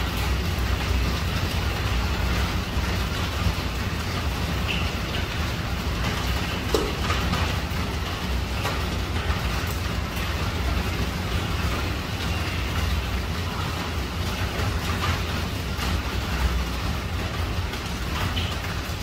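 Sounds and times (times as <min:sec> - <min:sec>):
heavy rain on a tiled roof: 0:00.0 - 0:19.0.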